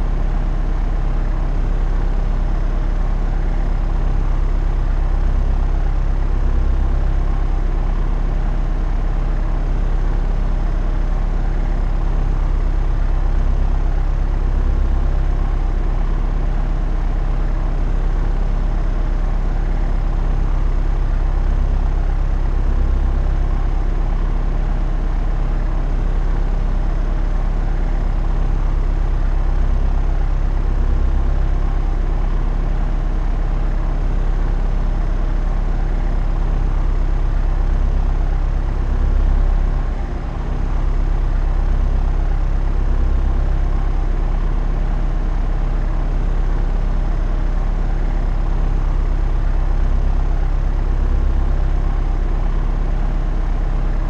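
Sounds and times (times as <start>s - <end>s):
propeller aircraft droning: 2.7s - 54.0s.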